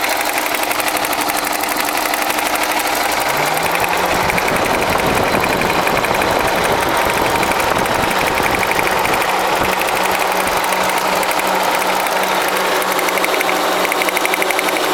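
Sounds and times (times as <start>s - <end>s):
car engine idling: 0.0s - 14.9s
rapid engine knock: 0.0s - 14.9s.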